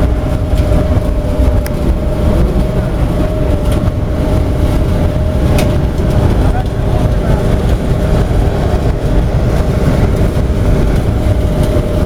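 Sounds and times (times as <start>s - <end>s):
burner flame rumbling: 0.0s - 12.0s
steady whine: 0.0s - 12.0s.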